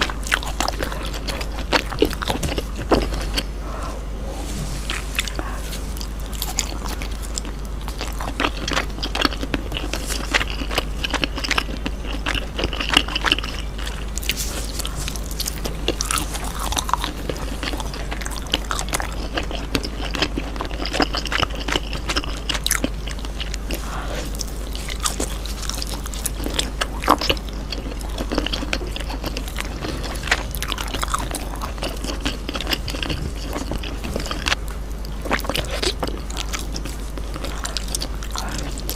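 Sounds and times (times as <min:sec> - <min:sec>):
chewing with small crunches: 0:00.0 - 0:03.6, 0:04.8 - 0:38.9.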